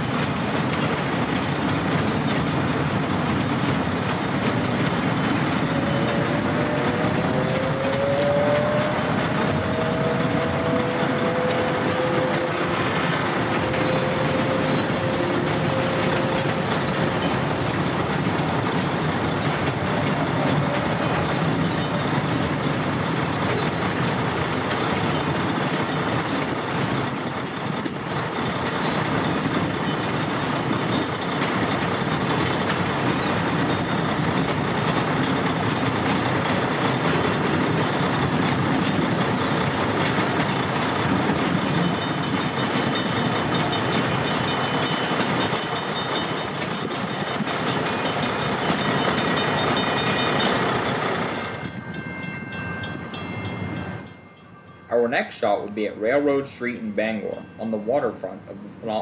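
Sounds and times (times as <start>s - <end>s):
freight train wheels on rail: 0.0s - 59.0s.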